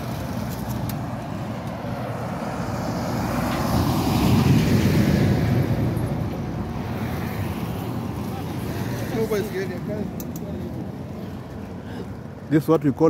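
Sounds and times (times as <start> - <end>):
vehicle passing: 0.0 - 12.6
wind and road noise: 0.0 - 13.0.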